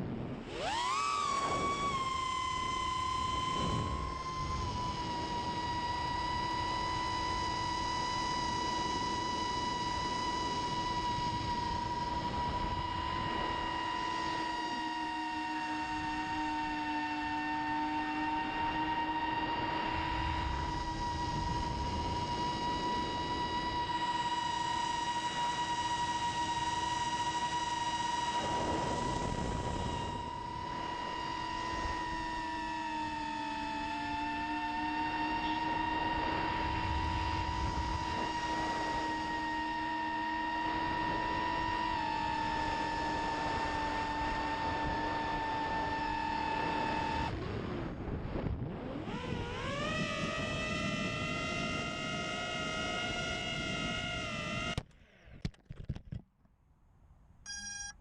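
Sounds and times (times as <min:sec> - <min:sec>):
drone motors whining: 0:00.0 - 0:55.4, 0:57.5 - 0:58.0.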